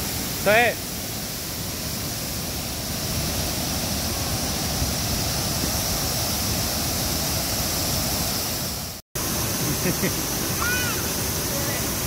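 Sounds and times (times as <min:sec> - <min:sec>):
waterfalls pouring into pool: 0:00.0 - 0:12.0.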